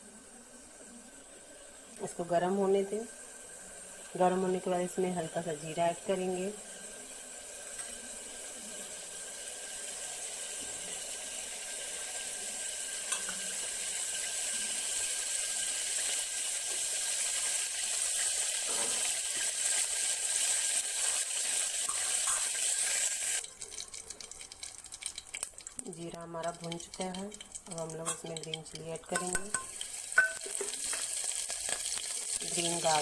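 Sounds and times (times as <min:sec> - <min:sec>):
seeds sizzling in oil: 0:00.0 - 0:33.0.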